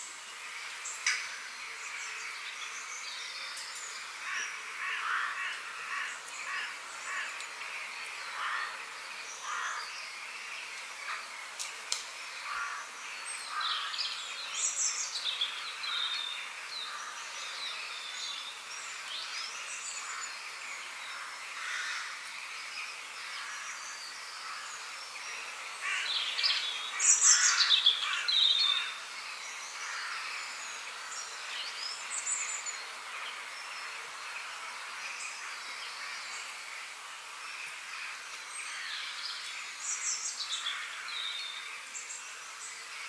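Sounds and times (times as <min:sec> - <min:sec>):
background hiss: 0:00.0 - 0:43.0
birds singing and chirping: 0:00.8 - 0:43.0.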